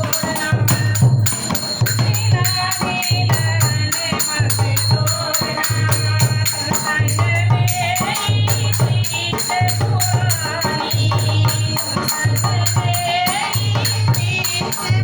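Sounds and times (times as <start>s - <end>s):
crisp percussion beat: 0.0s - 15.0s
person singing folk song: 0.0s - 15.0s.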